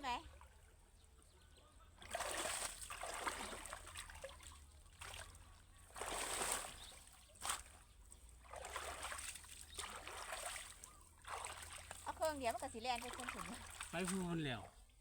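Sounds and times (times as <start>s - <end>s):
water splashing: 2.0s - 14.8s.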